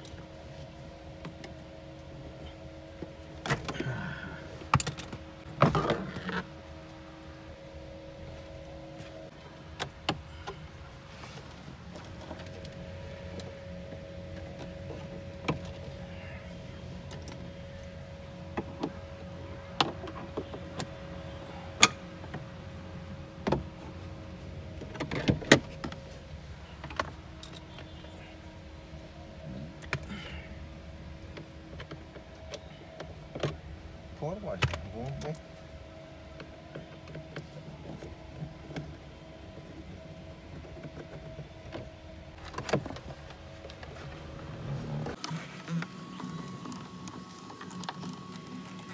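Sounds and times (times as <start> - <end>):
steady hum: 0.0 - 48.9.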